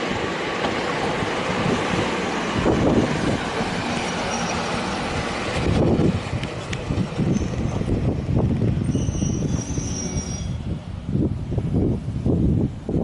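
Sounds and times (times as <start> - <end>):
electric train running past: 0.0 - 13.0.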